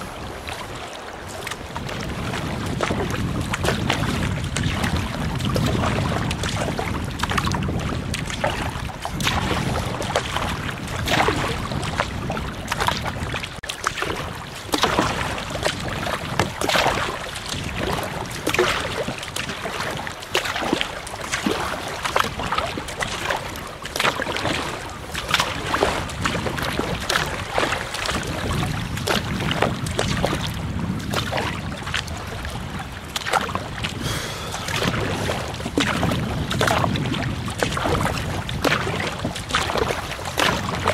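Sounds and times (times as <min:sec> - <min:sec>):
water splashing around kayak: 0:00.0 - 0:40.9
wind buffeting microphone: 0:00.0 - 0:40.9.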